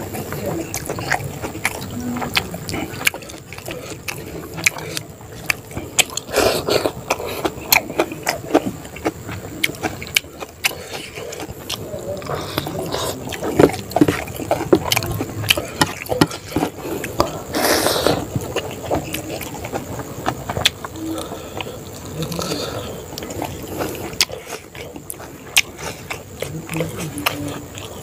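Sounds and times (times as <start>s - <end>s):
man chewing with lip smacks: 0.0s - 28.0s.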